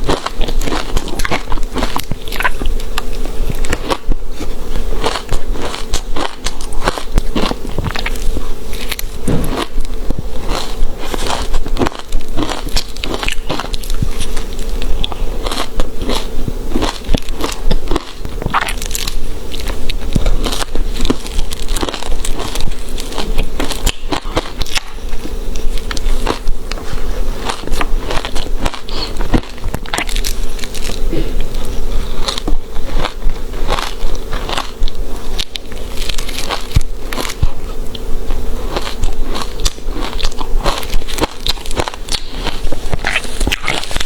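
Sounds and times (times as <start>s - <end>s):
ice being chewed: 0.0s - 44.0s.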